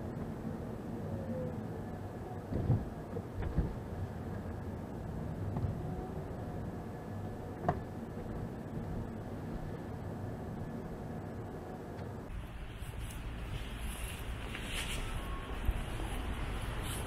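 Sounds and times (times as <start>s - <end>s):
car engine and road hum: 0.0s - 17.0s.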